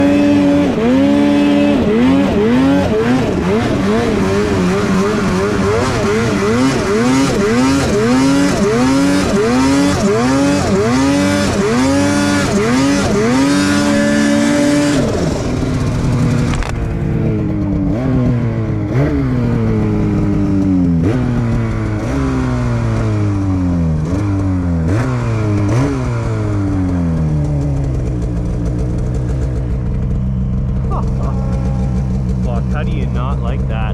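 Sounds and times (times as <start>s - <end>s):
snowmobile engine revving: 0.0s - 33.9s.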